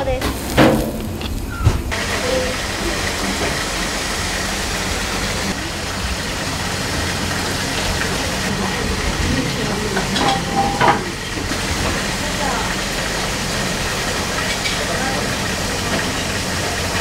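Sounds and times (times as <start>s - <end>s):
kitchen ventilation hum: 0.0s - 17.0s.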